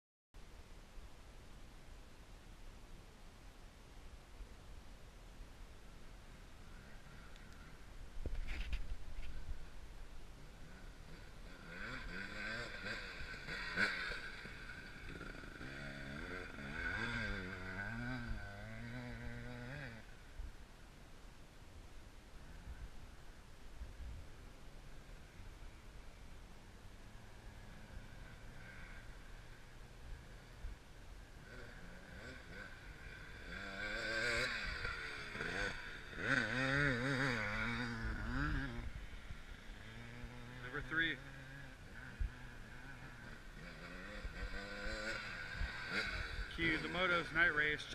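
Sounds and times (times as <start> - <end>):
motorcycle engine revving: 6.3 - 20.4, 22.3 - 47.9.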